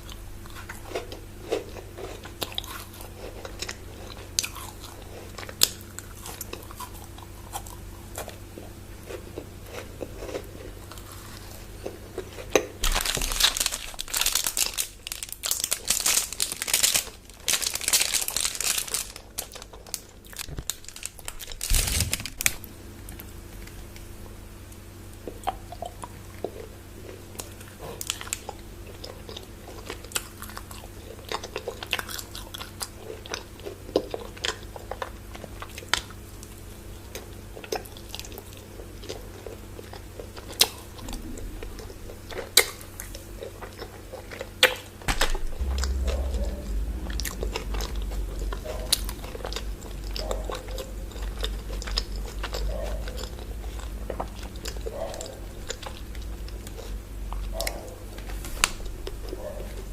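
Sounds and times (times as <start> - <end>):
chewing with mouth clicks: 0.0 - 14.0, 25.2 - 45.0, 45.6 - 59.9
crunchy chocolate bar eating: 0.0 - 24.0, 25.2 - 59.9
faint steady hum: 0.0 - 59.9.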